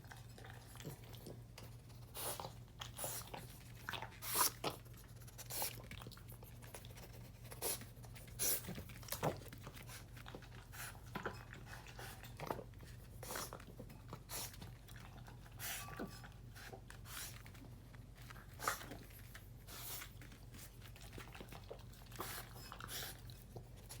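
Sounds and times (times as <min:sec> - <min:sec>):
puppy crunching and chewing food: 0:00.0 - 0:24.0.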